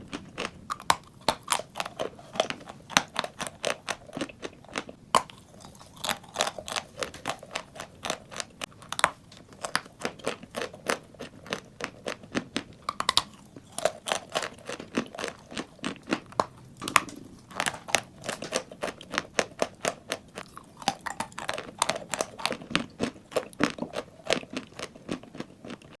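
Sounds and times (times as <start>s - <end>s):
chalk crunching being chewed: 0.1s - 26.0s.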